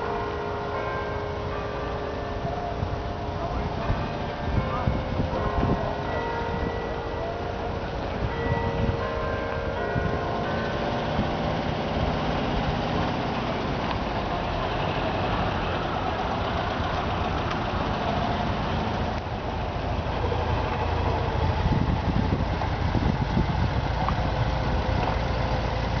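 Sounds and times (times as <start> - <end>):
engines running at low speed: 1.3 - 26.0.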